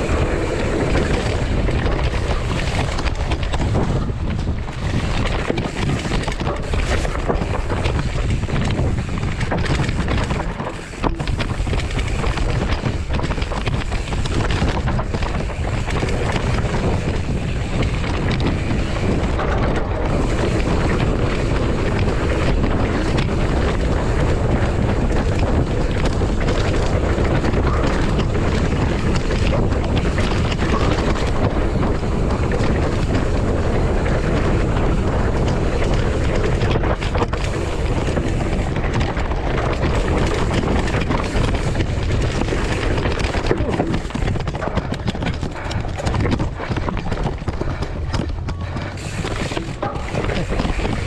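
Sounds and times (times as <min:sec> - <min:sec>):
mountain bike rolling over rough ground: 0:00.0 - 0:51.0
wind buffeting microphone: 0:00.0 - 0:51.0.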